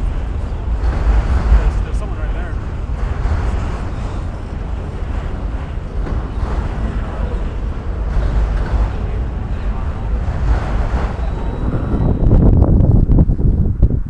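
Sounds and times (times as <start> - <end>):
train cars rolling on rails: 0.0 - 14.0
wind buffeting microphone: 0.0 - 14.0.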